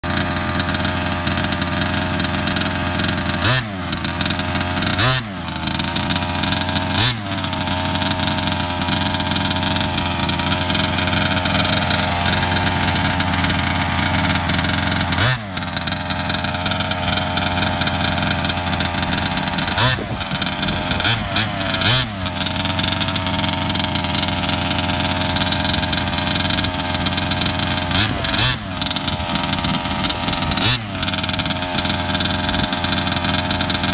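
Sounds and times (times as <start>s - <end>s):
engine throttle blips: 0.0s - 33.9s
model truck engine idling: 0.0s - 33.9s.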